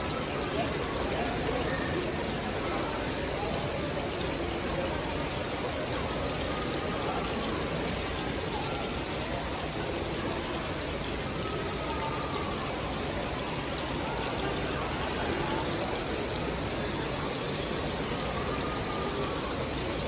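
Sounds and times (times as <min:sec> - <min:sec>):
faint distant voices: 0:00.0 - 0:20.0
falling water rushing: 0:00.0 - 0:20.0.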